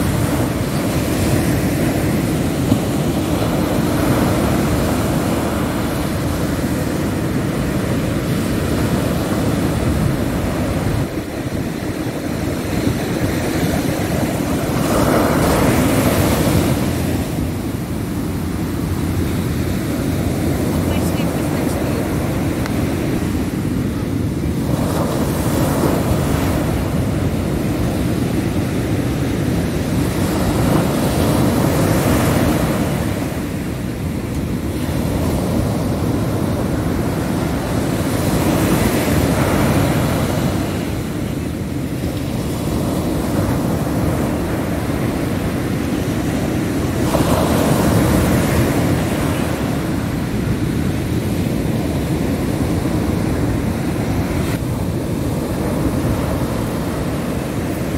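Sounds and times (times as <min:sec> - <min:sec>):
ocean surf breaking on beach: 0:00.0 - 0:57.9.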